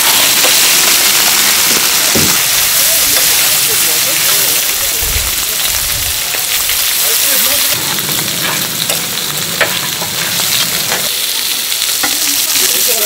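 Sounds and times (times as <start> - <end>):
meat sizzling on griddle: 0.0 - 13.0.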